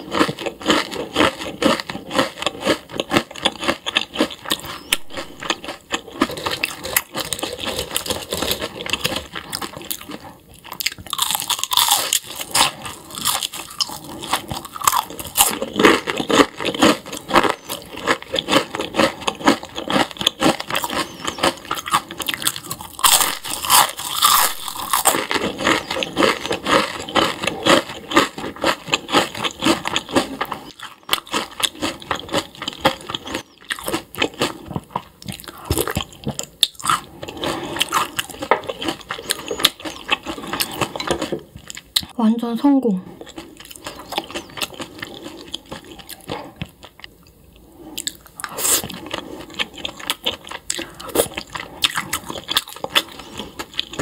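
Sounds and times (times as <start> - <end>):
crunching and chewing fried fish: 0.0 - 42.4, 43.1 - 54.0.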